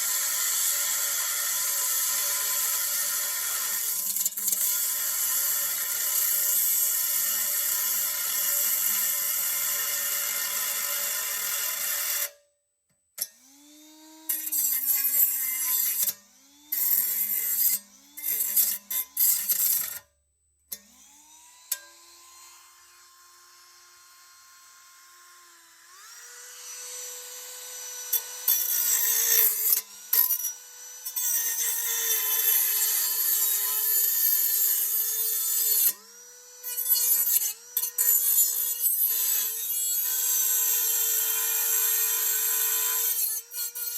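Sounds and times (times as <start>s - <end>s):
power tool cutting metal pipe: 0.0s - 12.6s, 13.2s - 43.9s.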